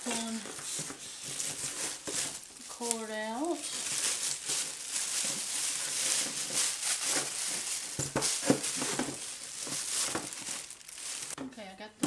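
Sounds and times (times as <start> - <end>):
plastic bags crinkling: 0.0 - 11.5.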